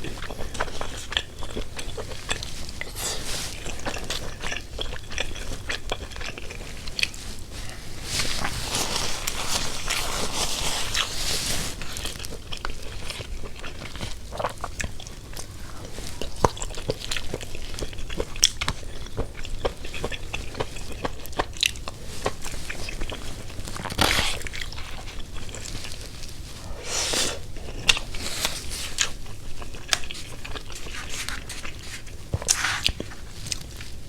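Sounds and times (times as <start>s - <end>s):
person chewing and crunching: 0.0s - 34.0s.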